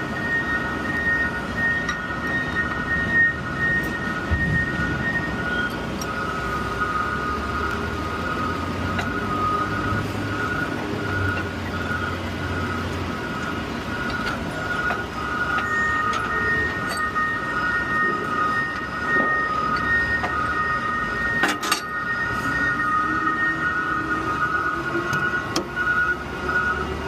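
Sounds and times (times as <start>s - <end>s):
steady high whine: 0.0s - 27.0s
truck engine rumble: 0.0s - 27.0s.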